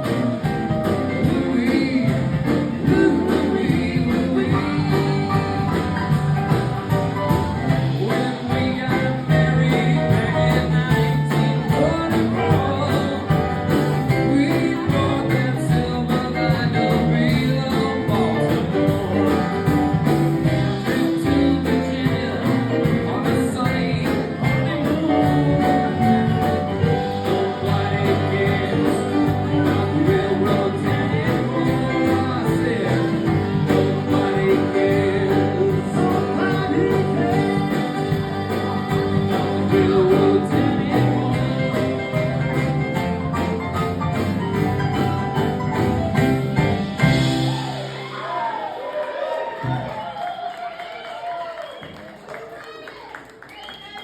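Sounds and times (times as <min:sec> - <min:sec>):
person singing: 0:00.0 - 0:48.4.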